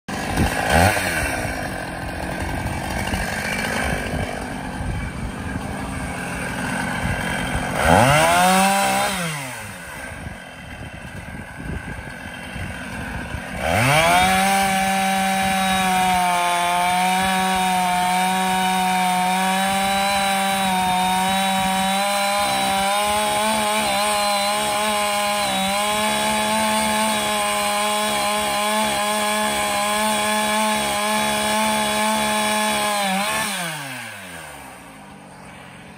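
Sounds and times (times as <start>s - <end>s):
chainsaw running and cutting: 0.1s - 35.9s.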